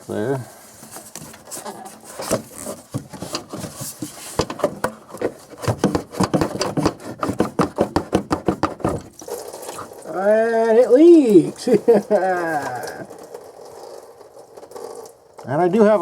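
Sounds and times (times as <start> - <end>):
rubber hose rubbing and scraping: 0.0 - 16.0.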